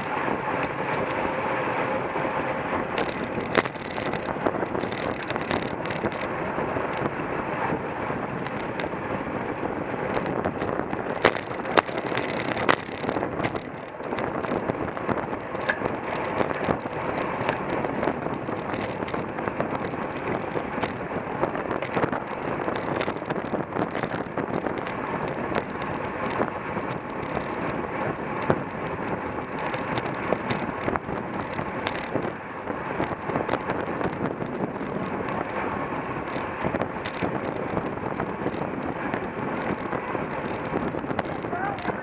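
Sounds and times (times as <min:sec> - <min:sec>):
bicycle road and drivetrain noise: 0:00.0 - 0:42.0
wind rushing over microphone: 0:00.0 - 0:42.0.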